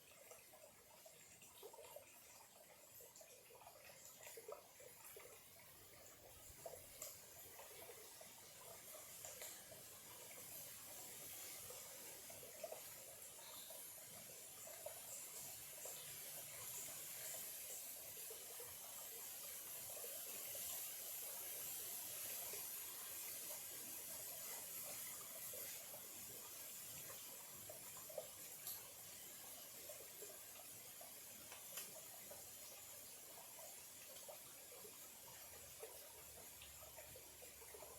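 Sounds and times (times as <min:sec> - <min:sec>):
stream trickling: 0:00.0 - 0:37.9.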